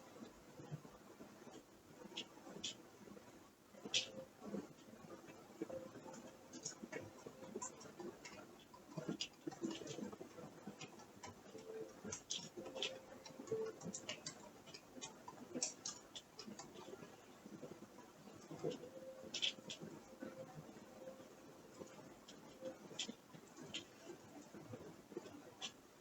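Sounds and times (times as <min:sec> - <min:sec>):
faint steady hum: 0:00.0 - 0:26.0
faint creaking clicks: 0:00.1 - 0:26.0.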